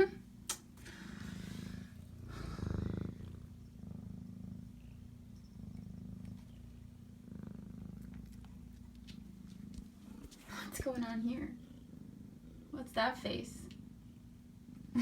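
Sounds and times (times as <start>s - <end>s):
cat purring: 0.8s - 15.0s.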